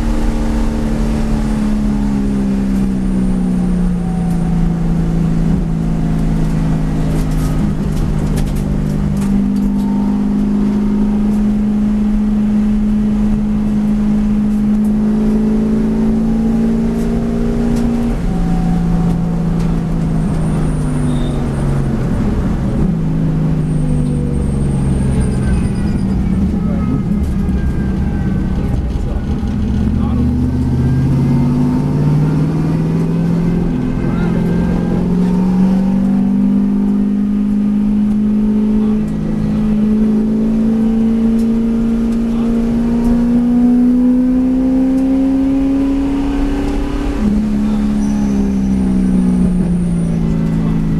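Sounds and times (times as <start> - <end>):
race car engine running hard: 0.0 - 50.9.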